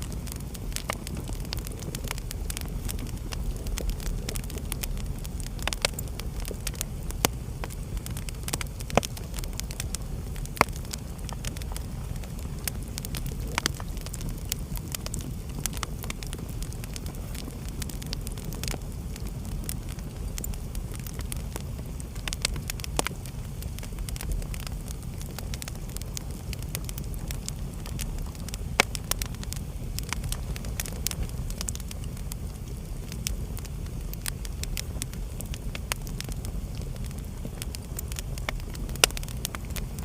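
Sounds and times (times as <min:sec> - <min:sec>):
logs crackling and popping: 0:00.0 - 0:40.0
wood fire rumbling: 0:00.0 - 0:40.0.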